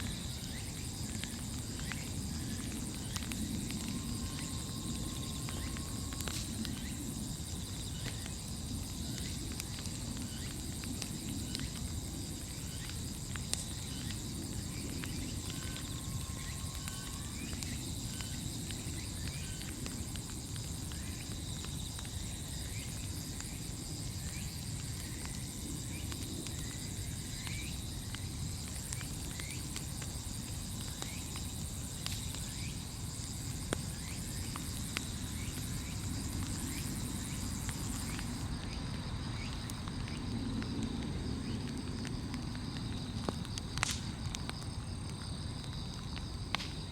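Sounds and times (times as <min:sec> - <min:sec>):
bonfire crackling and popping: 0:00.0 - 0:46.9
insects trilling: 0:00.0 - 0:46.9.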